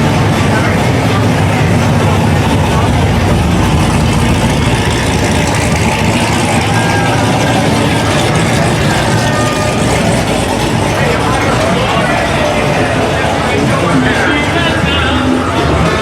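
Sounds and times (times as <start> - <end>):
car engines running: 0.0 - 16.0
voices: 0.0 - 16.0.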